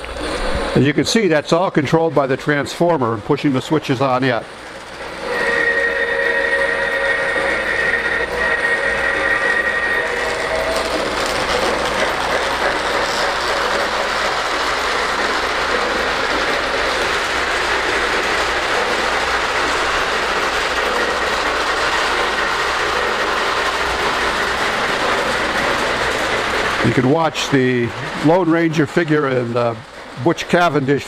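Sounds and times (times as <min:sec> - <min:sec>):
toy train running on track: 0:00.0 - 0:31.0.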